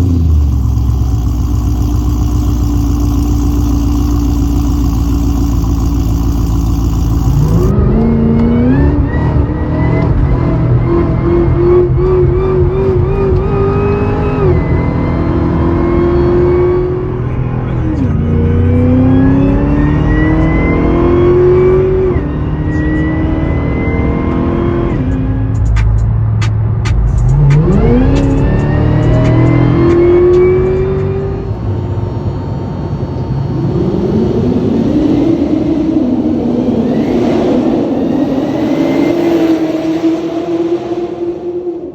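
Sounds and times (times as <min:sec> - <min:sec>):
car engine revving: 0:00.0 - 0:41.9
supercharger whine: 0:00.0 - 0:41.9.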